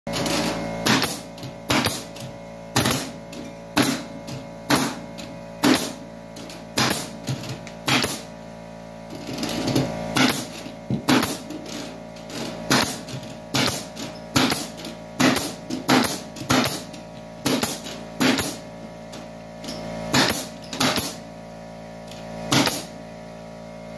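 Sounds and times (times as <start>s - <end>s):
pneumatic nail gun firing: 0.1s - 8.5s, 9.1s - 23.1s.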